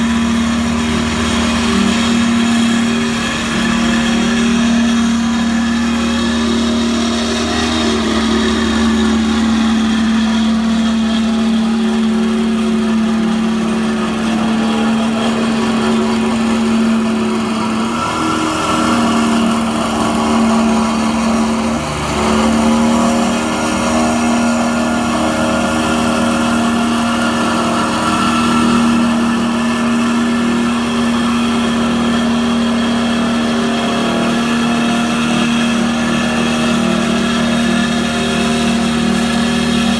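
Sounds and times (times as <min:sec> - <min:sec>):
roller petrol engine running: 0:00.0 - 0:39.9.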